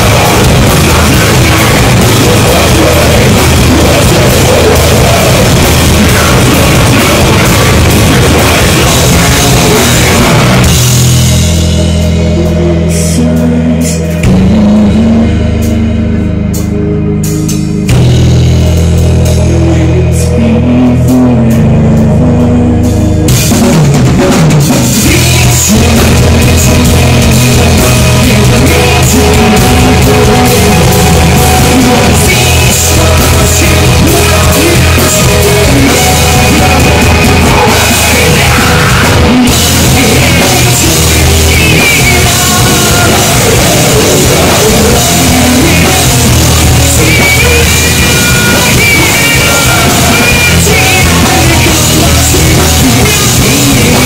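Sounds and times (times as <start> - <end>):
vocalist singing into microphone: 0.0 - 17.2, 19.2 - 23.5, 24.1 - 54.0
live rock band playing: 0.0 - 54.0.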